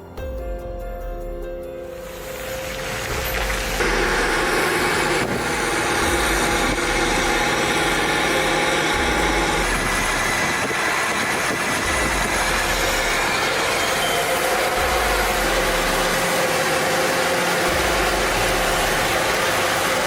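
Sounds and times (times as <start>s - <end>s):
tractor engine running: 2.4s - 20.0s.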